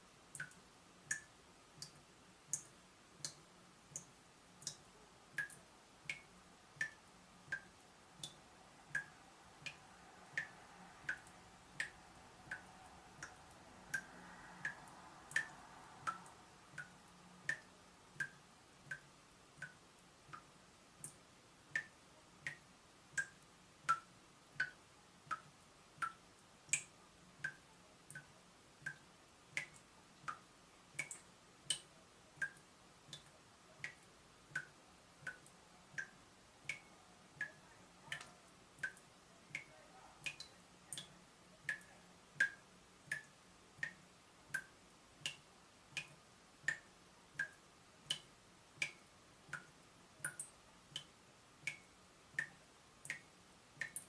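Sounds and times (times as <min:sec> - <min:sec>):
water dripping from tap: 0:00.3 - 0:54.0.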